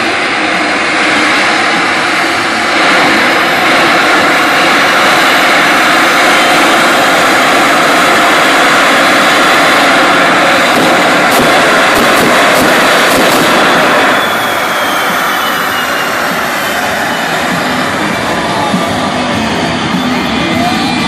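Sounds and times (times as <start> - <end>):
jet engine roaring: 0.0 - 21.0.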